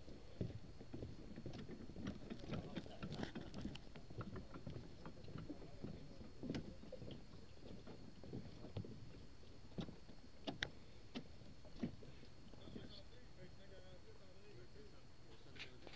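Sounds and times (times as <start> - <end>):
footsteps on dock: 0.0 - 13.0.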